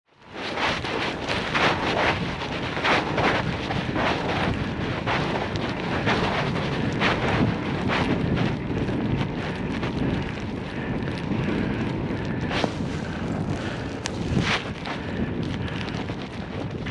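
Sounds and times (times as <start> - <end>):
wind noise on microphone: 0.1 - 16.9.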